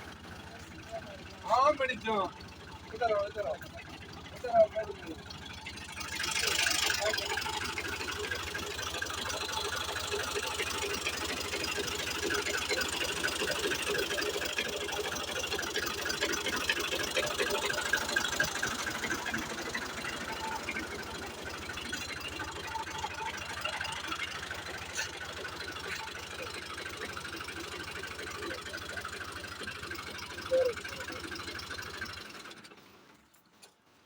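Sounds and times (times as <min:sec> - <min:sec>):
vehicle engine clattering: 0:00.0 - 0:33.9.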